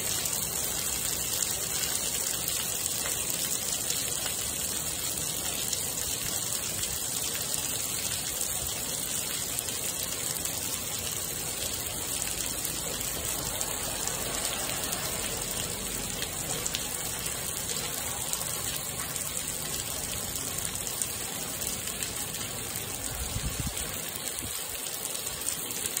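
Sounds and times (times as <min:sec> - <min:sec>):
heavy rain on pavement: 0:00.0 - 0:26.0
water pouring off roof: 0:00.0 - 0:26.0.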